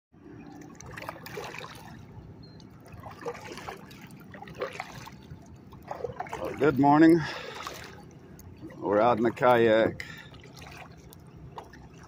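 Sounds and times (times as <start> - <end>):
water trickling and lapping: 0.2 - 12.0
small splashes and drips: 0.5 - 12.0.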